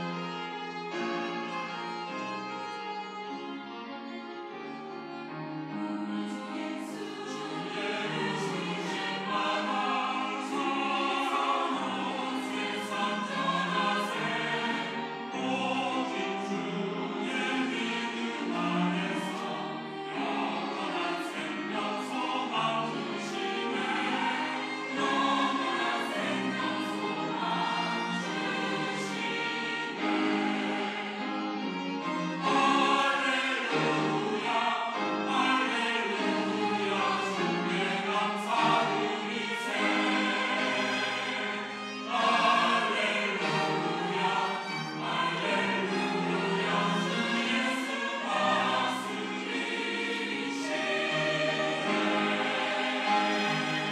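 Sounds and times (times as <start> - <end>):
violins: 0.0 - 53.9
mixed choir singing: 5.6 - 53.9.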